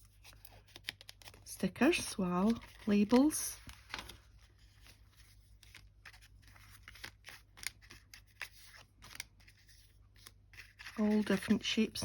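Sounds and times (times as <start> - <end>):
paper sticker labels rustling: 0.0 - 12.0.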